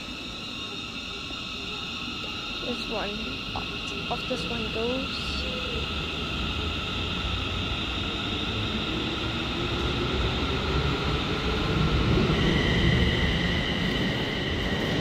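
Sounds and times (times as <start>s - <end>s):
electric train motor whine: 0.0s - 15.0s
low train rumble: 0.0s - 15.0s.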